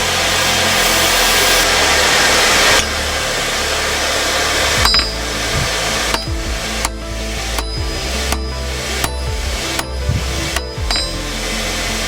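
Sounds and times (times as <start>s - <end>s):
forge rushing noise: 0.0s - 12.0s.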